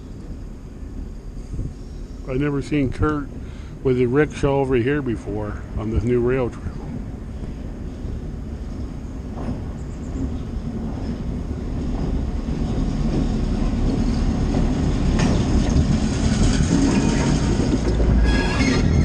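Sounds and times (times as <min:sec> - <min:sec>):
diesel locomotive rumble: 0:00.0 - 0:19.0.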